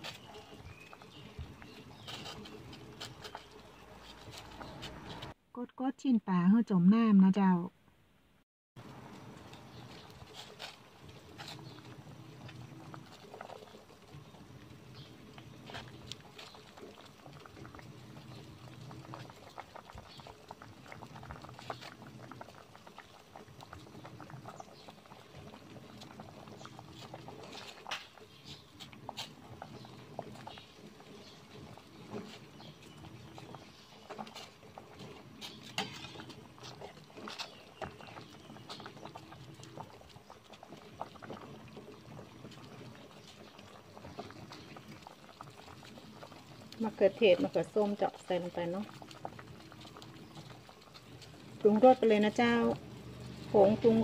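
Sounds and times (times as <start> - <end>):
broth boiling in a pot: 0.0 - 5.4, 8.8 - 54.0.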